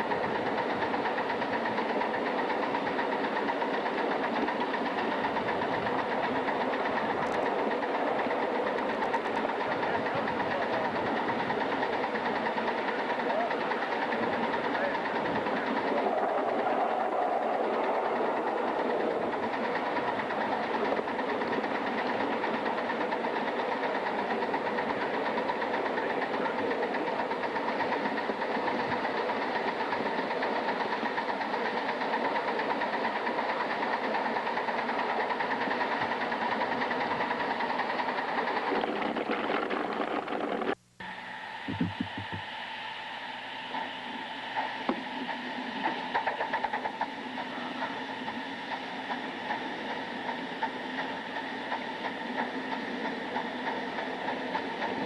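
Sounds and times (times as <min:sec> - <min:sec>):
steam locomotive hissing and beating: 0:00.0 - 0:55.0.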